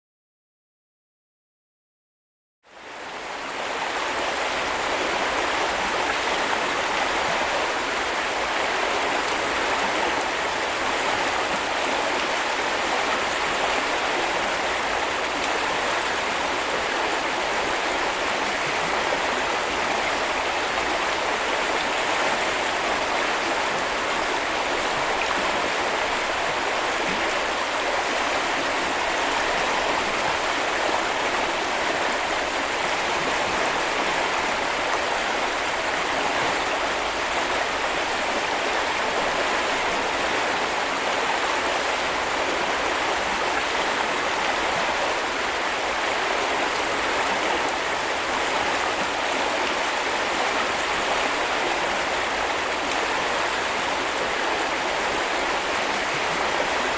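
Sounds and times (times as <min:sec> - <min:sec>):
brook babbling over stones: 0:02.8 - 0:56.9.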